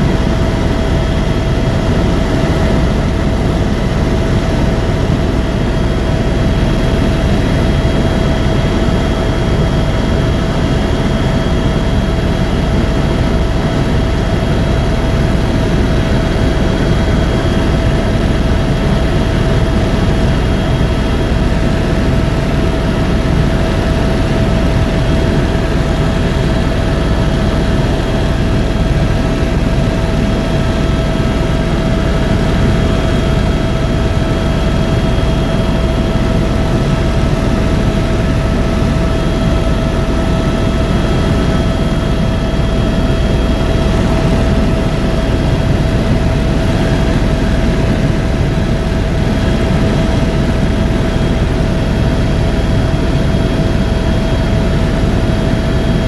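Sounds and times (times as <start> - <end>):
constant high whine: 0.0 - 56.0
helicopter rotor and engine drone: 0.0 - 56.0.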